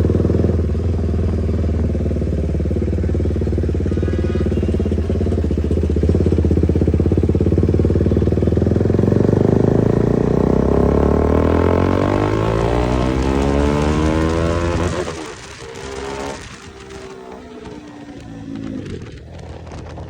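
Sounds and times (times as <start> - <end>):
motorcycle engine pulsing: 0.0 - 20.0.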